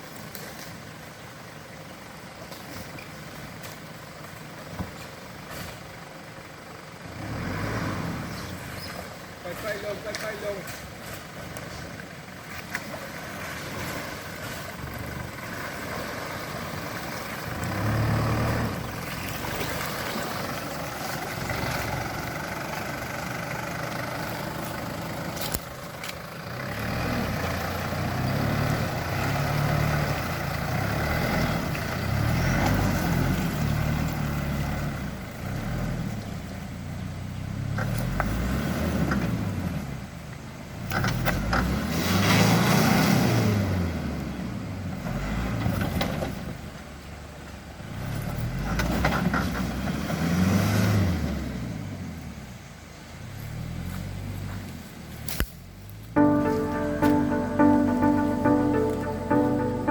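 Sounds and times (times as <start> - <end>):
four-wheel-drive engine running: 0.0 - 59.9.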